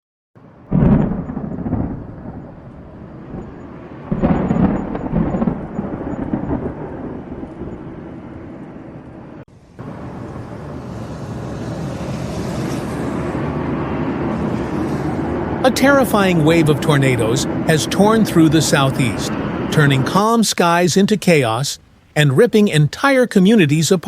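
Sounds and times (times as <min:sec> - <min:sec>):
thunder rumbling: 0:00.4 - 0:20.2
rushing storm hiss: 0:00.7 - 0:24.0.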